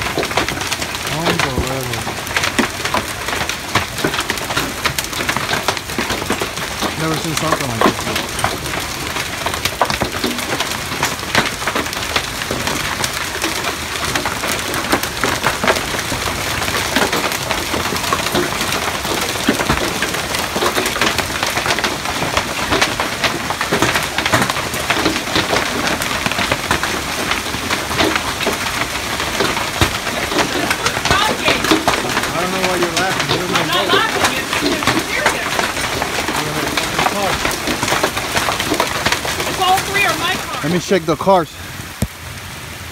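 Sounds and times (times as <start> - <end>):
hailstones pelting wooden deck: 0.0 - 42.9.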